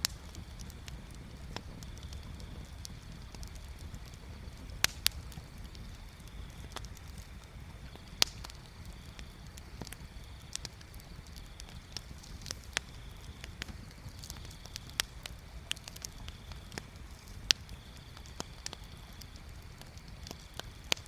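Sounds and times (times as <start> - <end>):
bonfire crackling and popping: 0.0 - 21.0
low steady rumble: 0.0 - 21.0.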